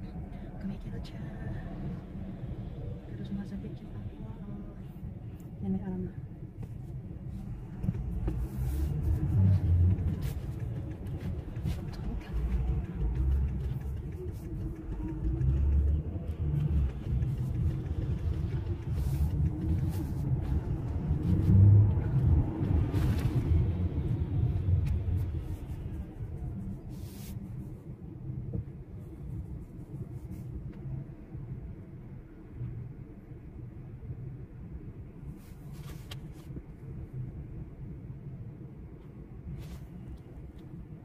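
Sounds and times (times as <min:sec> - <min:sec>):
car engine rumble: 0:00.0 - 0:41.0
road noise inside car: 0:00.0 - 0:41.0.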